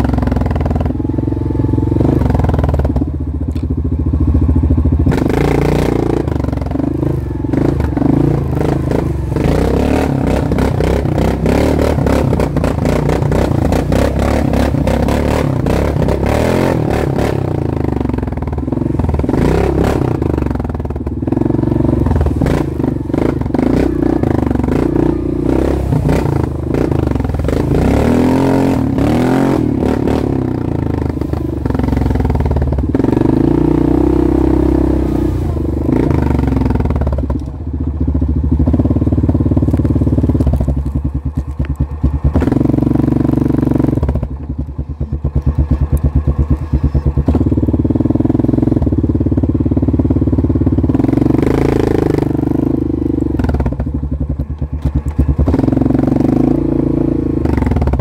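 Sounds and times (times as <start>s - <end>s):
off-road vehicle engine revving: 0.0s - 58.0s
vehicle rattling over bumps: 0.0s - 58.0s.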